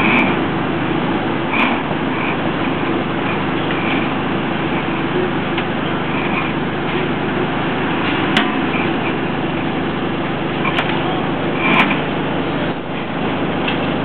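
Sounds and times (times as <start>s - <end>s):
crane engine running: 0.0s - 14.0s.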